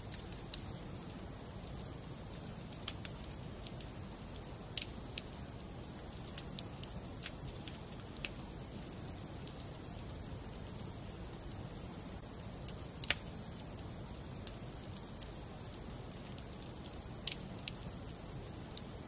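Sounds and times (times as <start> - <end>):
fire low rumble: 0.0 - 19.0
logs crackling and popping: 0.0 - 19.0.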